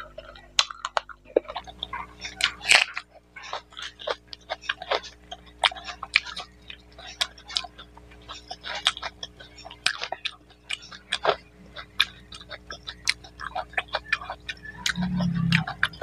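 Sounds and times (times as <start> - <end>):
faint steady hum: 0.0 - 16.0
wet eating clicks and smacks: 0.0 - 16.0.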